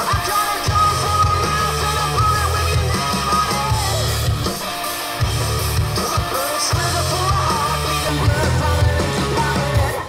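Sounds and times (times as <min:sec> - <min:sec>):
rock music through loudspeakers: 0:00.0 - 0:10.0.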